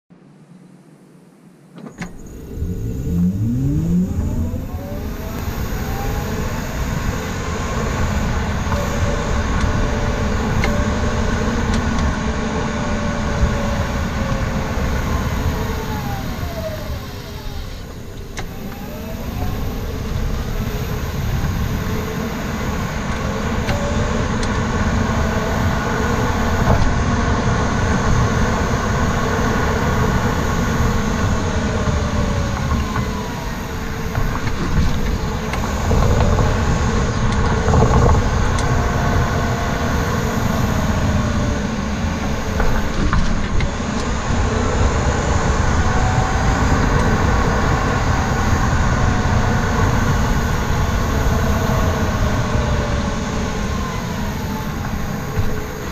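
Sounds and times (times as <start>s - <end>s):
car whine: 0.1s - 55.9s
road and tyre rumble: 0.1s - 55.9s.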